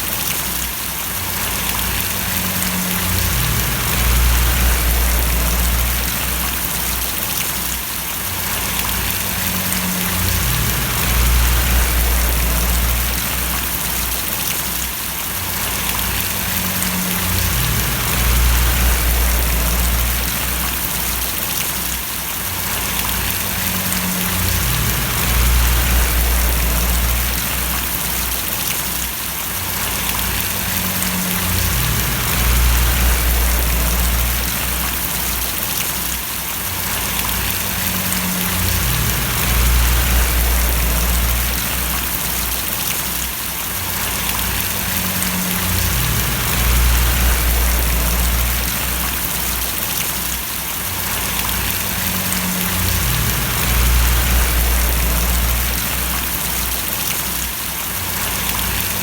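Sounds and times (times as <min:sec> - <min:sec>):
rain splashing: 0:00.0 - 0:59.0
low rumble: 0:01.4 - 0:07.2, 0:08.4 - 0:14.5, 0:15.4 - 0:21.4, 0:22.6 - 0:28.8, 0:29.6 - 0:35.7, 0:36.9 - 0:42.9, 0:43.9 - 0:50.0, 0:51.0 - 0:57.2.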